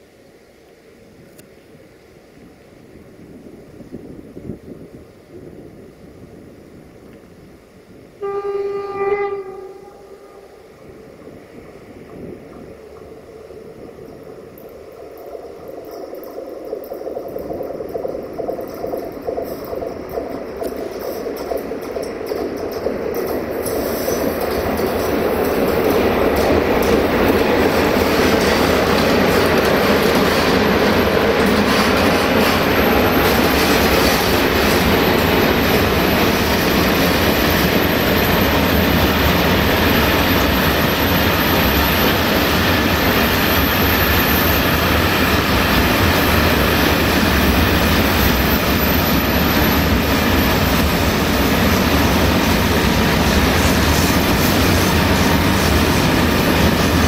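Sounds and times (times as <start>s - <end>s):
freight train wheels rumbling: 2.5s - 57.0s.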